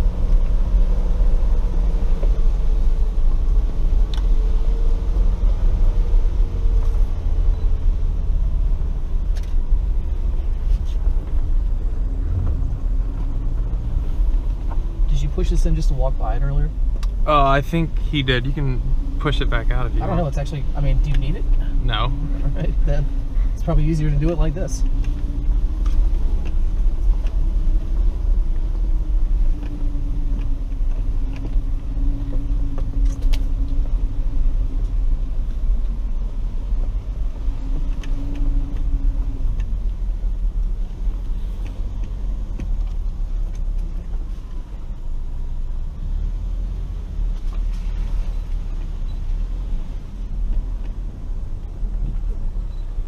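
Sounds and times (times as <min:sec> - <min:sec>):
engine and tyres rumbling: 0:00.0 - 0:53.0.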